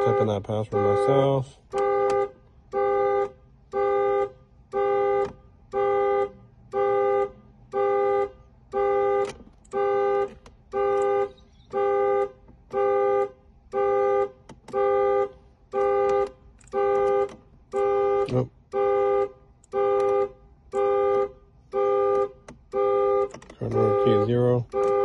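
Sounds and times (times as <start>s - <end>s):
car warning chime: 0.0s - 25.0s.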